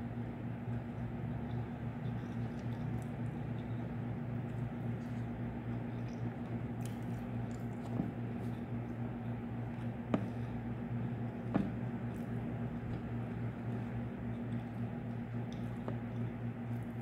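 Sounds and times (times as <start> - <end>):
steady low hum: 0.0 - 17.0
soft chewing: 0.6 - 17.0.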